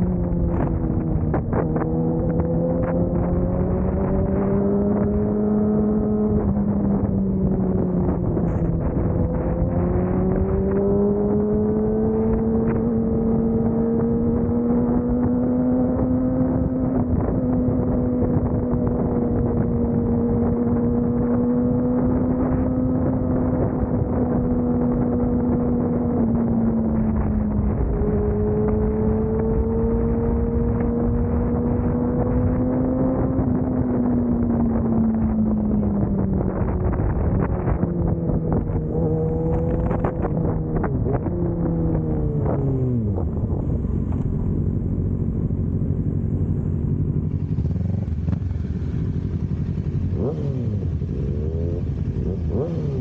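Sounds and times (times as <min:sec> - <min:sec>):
wind rushing on microphone: 0:00.0 - 0:46.4
motorcycle engine running: 0:00.0 - 0:53.0.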